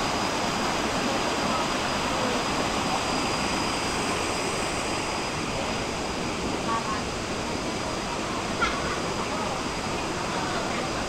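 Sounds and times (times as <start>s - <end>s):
waterfall roaring over rocks: 0.0s - 11.0s.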